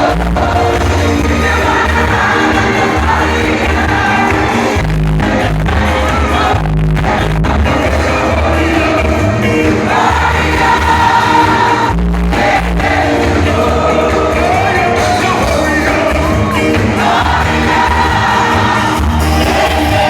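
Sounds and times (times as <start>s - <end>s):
gospel band with heavy bass: 0.0s - 20.0s
lead singer singing: 0.0s - 20.0s.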